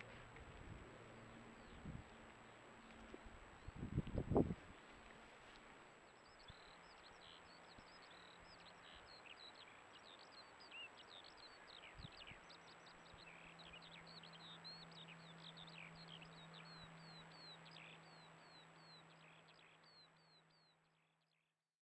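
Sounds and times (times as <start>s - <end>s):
low steady hum: 0.0s - 21.2s.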